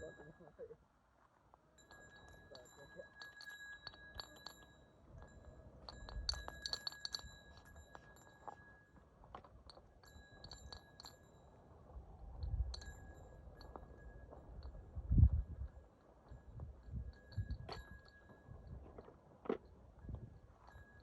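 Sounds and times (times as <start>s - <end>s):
light clinking with ringing tone: 0.0s - 0.8s, 1.5s - 21.0s.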